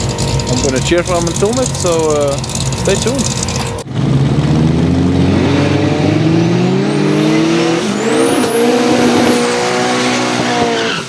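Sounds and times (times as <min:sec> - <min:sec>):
drag car engine accelerating: 0:00.0 - 0:11.0.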